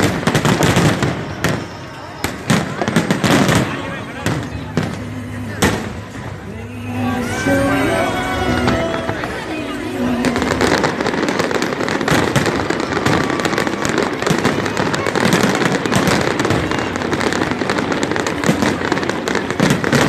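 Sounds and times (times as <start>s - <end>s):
fireworks and firecrackers banging: 0.0s - 20.0s.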